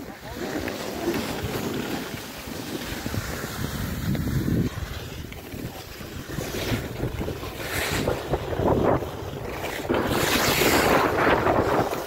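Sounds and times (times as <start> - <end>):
skis sliding on snow: 0.0 - 12.0
wind rushing over microphone: 1.3 - 12.0.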